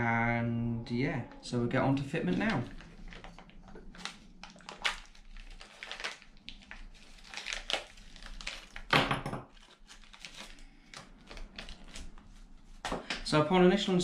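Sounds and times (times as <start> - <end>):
plastic bag crinkling: 1.3 - 12.9.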